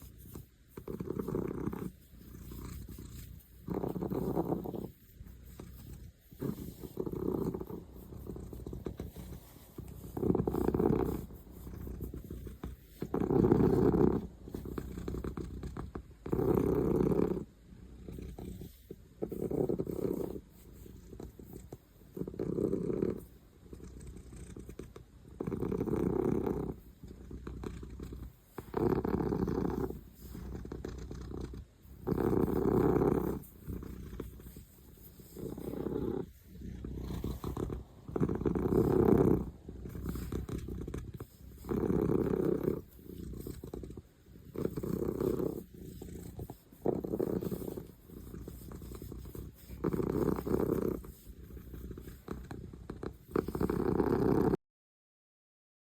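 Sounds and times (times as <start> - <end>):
cat snoring: 0.0 - 54.6.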